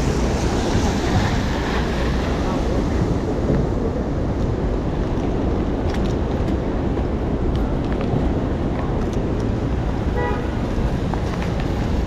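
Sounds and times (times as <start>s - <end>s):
traffic on wet street: 0.0s - 12.0s
wind buffeting microphone: 0.0s - 12.0s.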